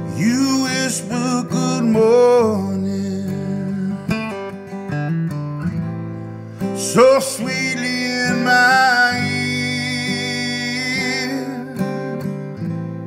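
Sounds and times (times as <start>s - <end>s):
acoustic blues song: 0.0s - 13.0s
guitar playing: 0.0s - 13.0s.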